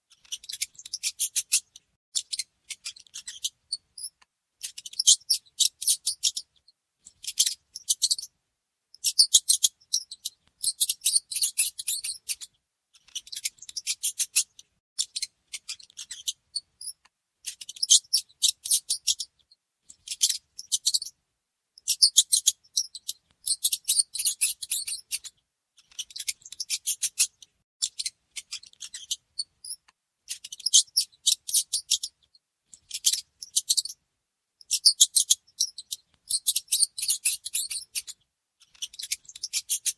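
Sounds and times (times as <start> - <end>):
mice squeaking: 0.2 - 8.3, 9.0 - 19.3, 19.9 - 21.1, 21.8 - 34.0, 34.6 - 39.9.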